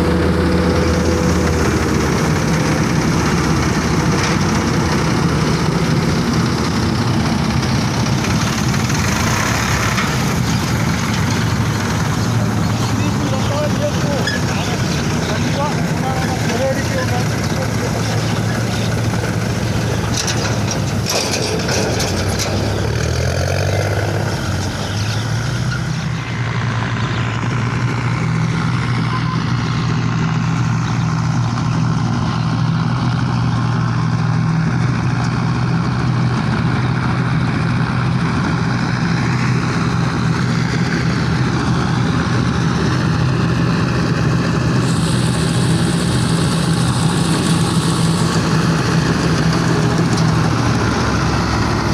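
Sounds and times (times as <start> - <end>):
diesel engine of harvester running: 0.0 - 51.9.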